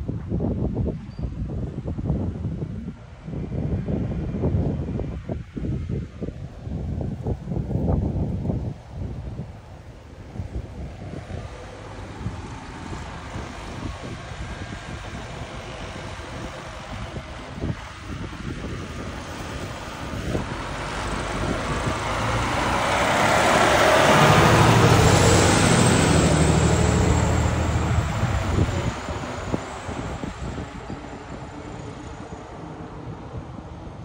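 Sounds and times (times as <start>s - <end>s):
fire engine diesel engine driving past: 6.6s - 34.0s.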